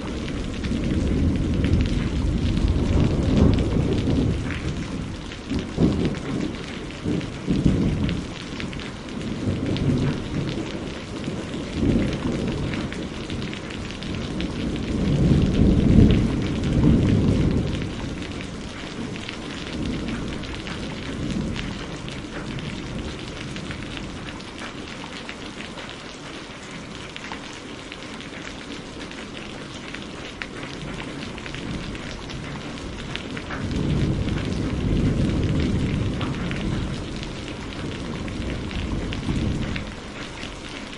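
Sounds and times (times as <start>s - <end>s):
rolling thunder: 0.0s - 24.4s, 30.6s - 40.9s
steady rain falling: 0.0s - 40.9s.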